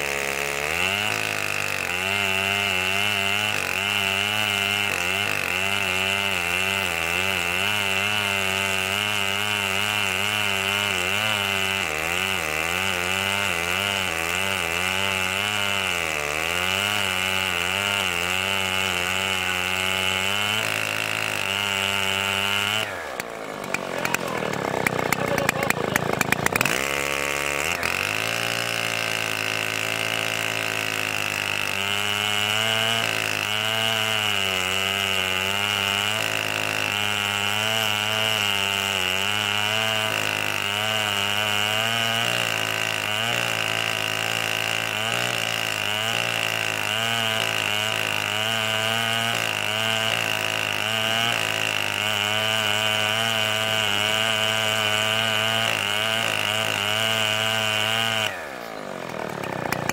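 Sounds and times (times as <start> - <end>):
chainsaw cutting wood at high revs: 0.0 - 59.9.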